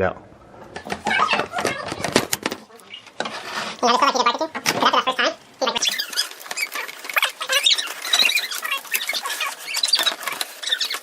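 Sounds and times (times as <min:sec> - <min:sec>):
plastic scraping: 0:00.7 - 0:11.0
plastic squeaking and clicking: 0:00.8 - 0:11.0.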